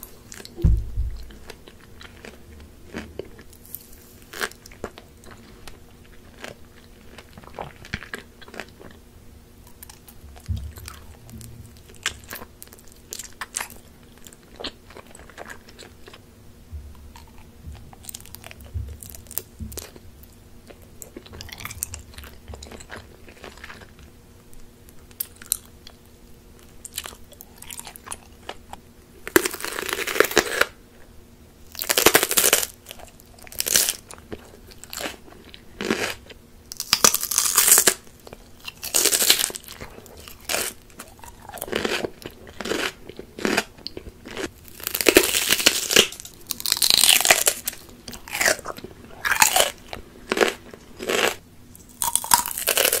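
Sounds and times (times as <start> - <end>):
crunchy chewing: 0.0 - 0.6, 1.2 - 9.0, 9.6 - 16.2, 16.9 - 30.8, 31.7 - 53.0.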